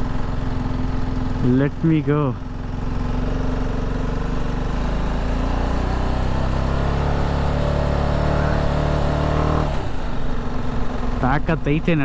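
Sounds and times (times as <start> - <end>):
motorcycle engine climbing hill: 0.0 - 12.0.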